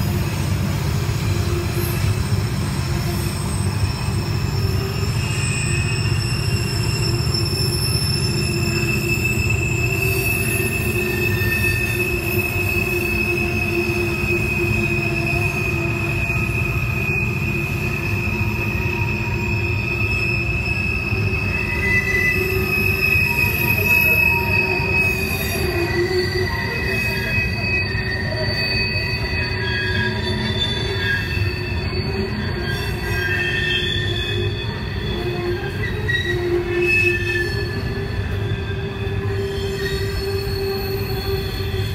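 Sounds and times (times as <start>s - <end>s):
train wheels squealing: 0.0s - 41.9s
wheels rumbling on rail: 0.0s - 41.9s.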